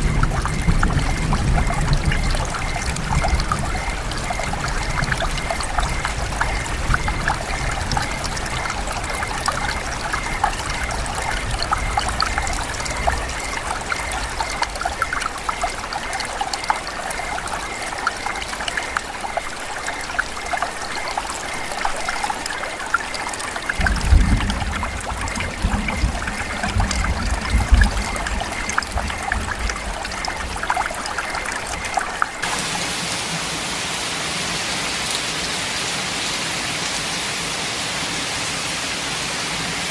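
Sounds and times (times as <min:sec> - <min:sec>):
running water: 0:00.0 - 0:37.1
rain dripping: 0:00.0 - 0:39.9
steady rain hiss: 0:00.0 - 0:39.9.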